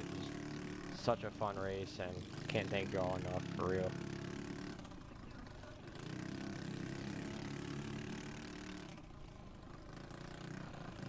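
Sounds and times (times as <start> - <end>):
minibike engine running: 0.0 - 11.0.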